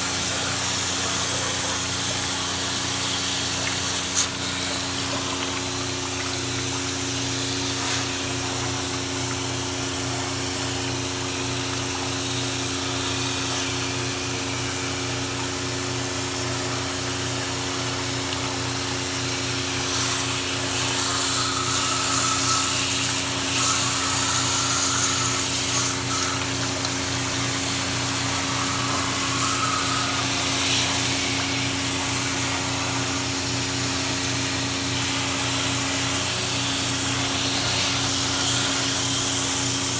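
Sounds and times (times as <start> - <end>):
water spray hissing: 0.0 - 14.8, 19.8 - 39.9
pump motor hum: 0.0 - 39.9.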